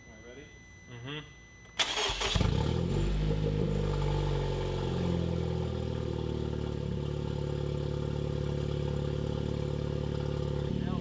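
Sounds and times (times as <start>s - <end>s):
car engine idling: 2.0s - 11.0s.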